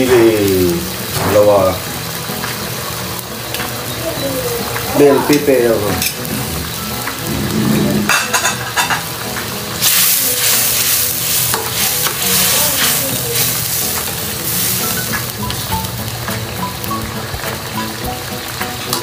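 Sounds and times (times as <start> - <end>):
squid sizzling in a wok: 0.0 - 19.0.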